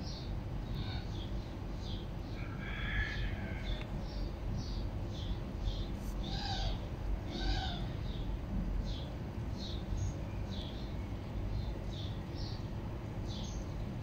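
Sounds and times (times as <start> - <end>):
birds chirping: 0.0 - 14.0
low background rumble: 0.0 - 14.0.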